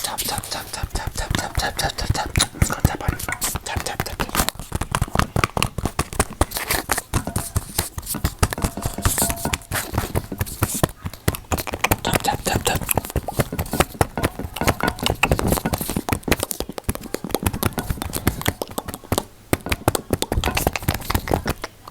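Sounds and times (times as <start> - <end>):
rapid clicks and crackles: 0.0 - 21.9.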